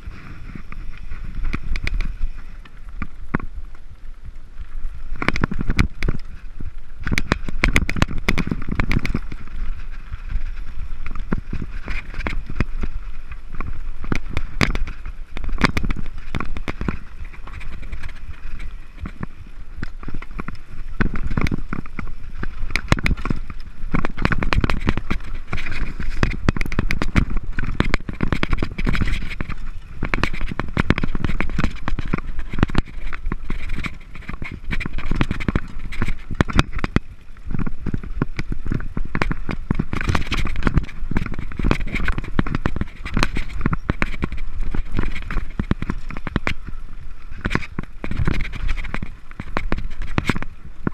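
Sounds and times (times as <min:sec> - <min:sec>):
bike frame and chain rattling: 0:00.0 - 0:50.9
tyres crunching over loose stones: 0:00.0 - 0:50.9.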